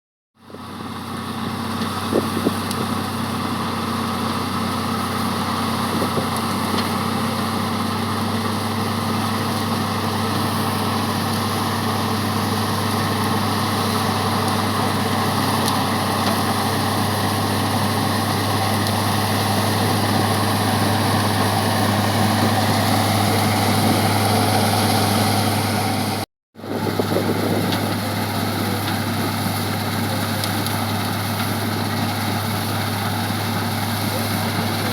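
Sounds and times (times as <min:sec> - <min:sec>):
combine harvester engine drone: 0:00.4 - 0:34.9.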